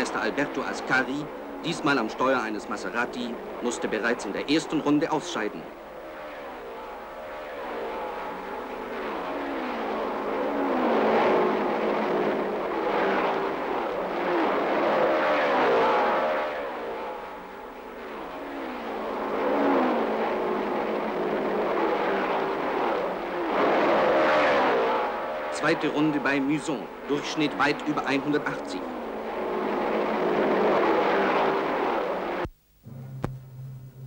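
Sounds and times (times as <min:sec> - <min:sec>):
racing cars passing by: 0:00.0 - 0:32.5.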